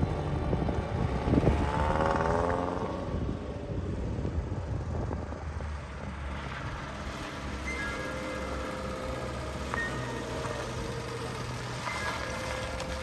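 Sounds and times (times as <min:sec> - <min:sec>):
car engine revving: 0:00.0 - 0:03.4, 0:04.3 - 0:13.0.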